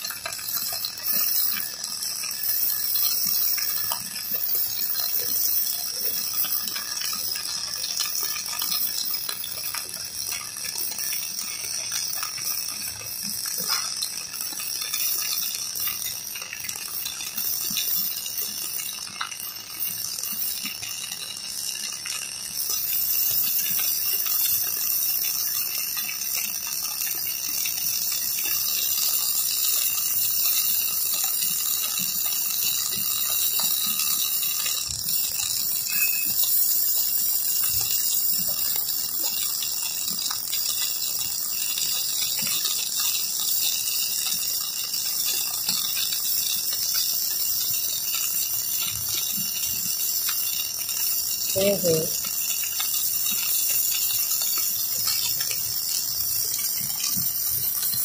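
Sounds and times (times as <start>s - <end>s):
arc welding hiss and crackle: 0.0s - 58.0s.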